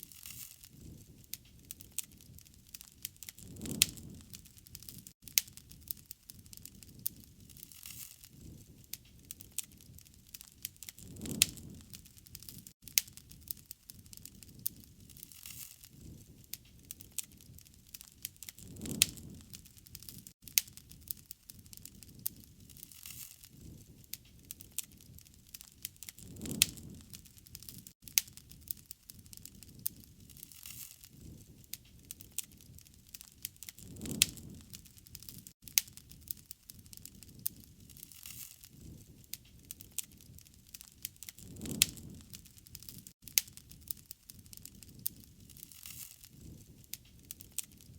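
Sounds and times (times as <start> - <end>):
campfire crackling and popping: 0.0 - 47.9
low rush of burning wood: 0.0 - 47.9
low rumble of flames: 0.2 - 47.9.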